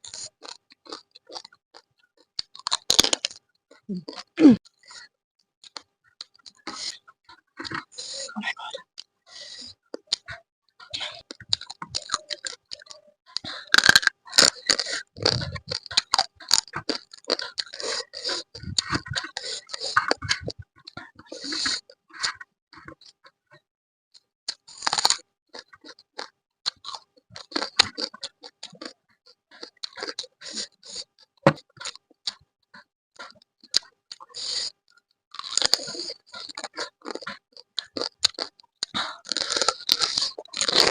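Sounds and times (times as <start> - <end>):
crunching and chewing: 0.0 - 8.2, 8.9 - 10.4, 11.0 - 23.4, 24.2 - 40.9.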